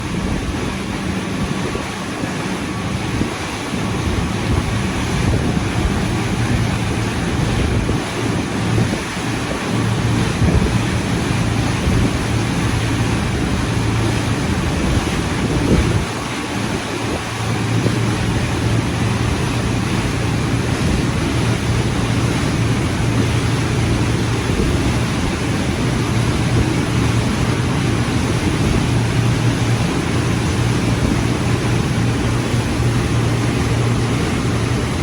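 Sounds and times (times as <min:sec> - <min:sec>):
low engine hum: 0:00.0 - 0:35.0
rushing water: 0:00.0 - 0:35.0
wind buffeting microphone: 0:00.0 - 0:35.0.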